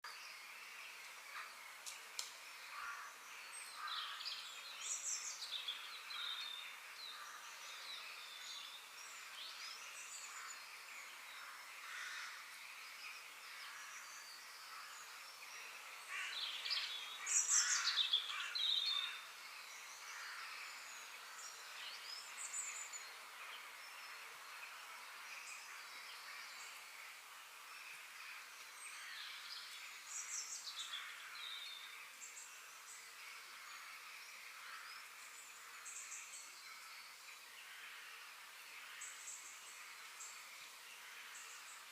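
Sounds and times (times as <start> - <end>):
birds chirping and singing: 0.1 - 41.9.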